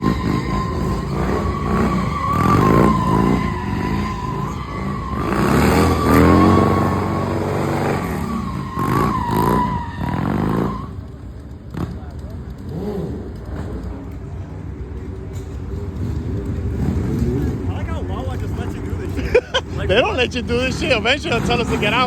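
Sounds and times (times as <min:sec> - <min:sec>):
motorcycle engine revving: 0:00.0 - 0:22.0
tyre squealing on pavement: 0:00.0 - 0:22.0.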